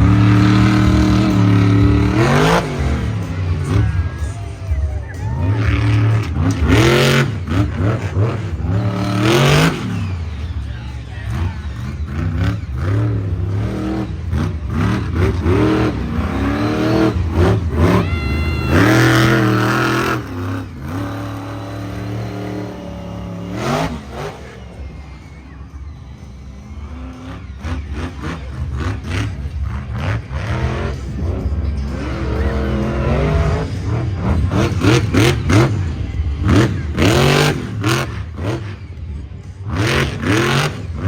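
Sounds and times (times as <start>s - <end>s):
truck engine revving: 0.0s - 41.0s.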